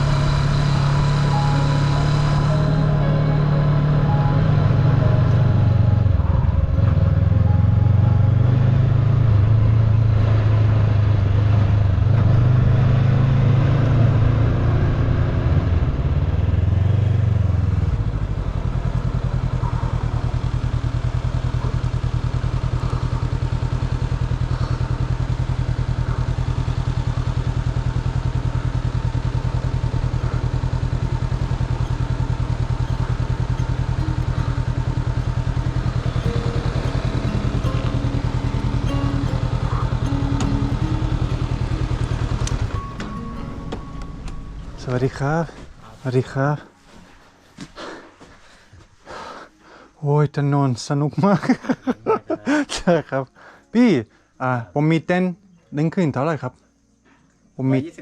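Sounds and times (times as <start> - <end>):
motorbike engine running: 0.0 - 46.4.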